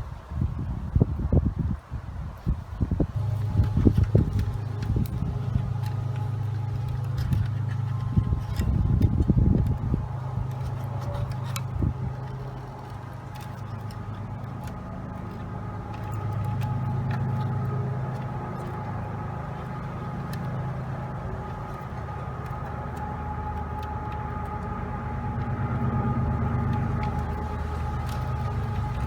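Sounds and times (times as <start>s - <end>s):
low machine hum: 2.5s - 29.0s.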